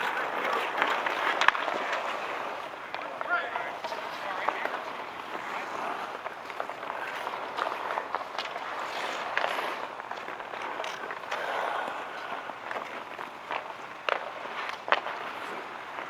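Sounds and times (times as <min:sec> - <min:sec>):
hockey sticks and puck clacking: 0:00.0 - 0:16.0
skate blades scraping on ice: 0:00.0 - 0:16.0.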